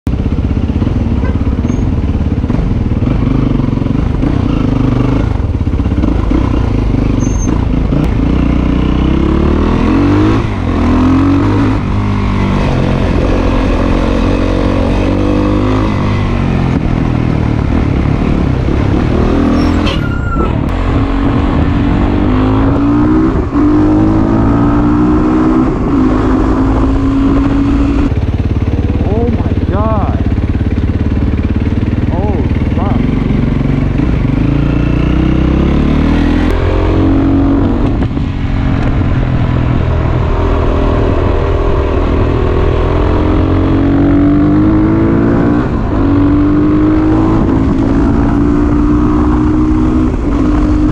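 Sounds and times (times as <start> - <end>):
motorcycle engine accelerating: 0.1 - 50.9.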